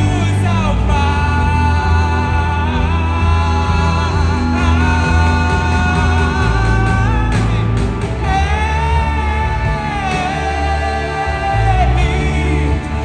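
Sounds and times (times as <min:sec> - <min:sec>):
gospel band playing: 0:00.0 - 0:13.0.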